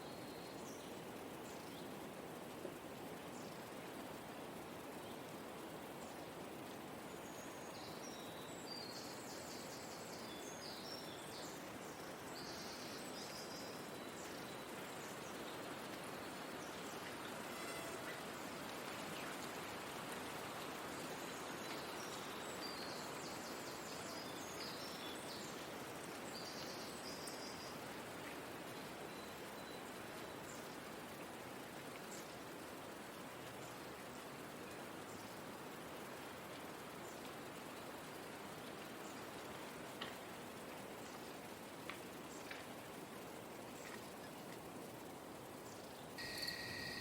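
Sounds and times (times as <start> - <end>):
soft rushing breeze: 0.0 - 47.0.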